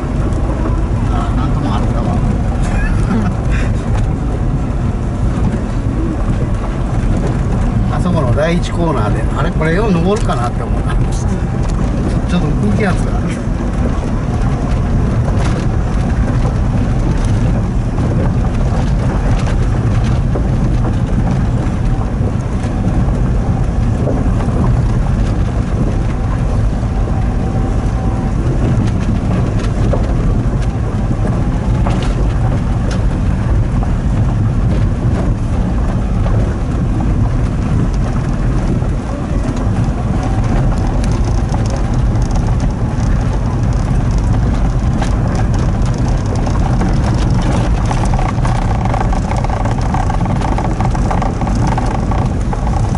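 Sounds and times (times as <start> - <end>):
crackles and clicks: 0.0 - 52.9
truck engine and tyres rumbling: 0.0 - 52.9.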